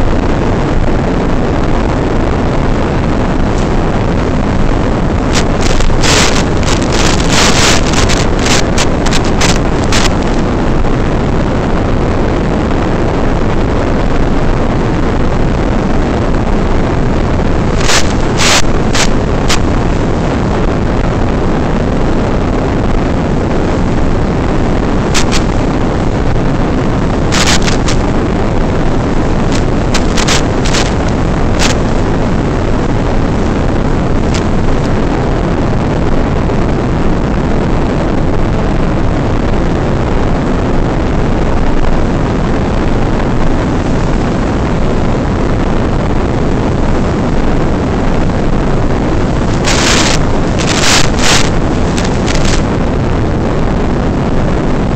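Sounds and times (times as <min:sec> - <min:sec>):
radio static crackles: 0:00.0 - 0:54.9
wind buffeting microphone: 0:00.6 - 0:13.7, 0:15.0 - 0:38.3, 0:42.1 - 0:54.9.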